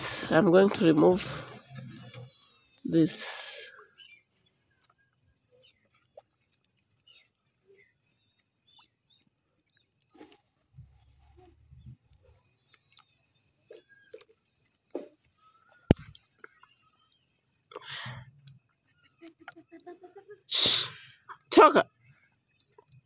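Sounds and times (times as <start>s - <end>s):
night insects trilling: 0.0s - 23.0s.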